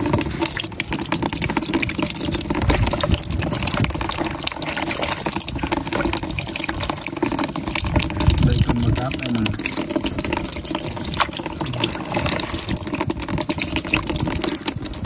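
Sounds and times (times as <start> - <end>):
water splashing in plastic basin: 0.0 - 15.0.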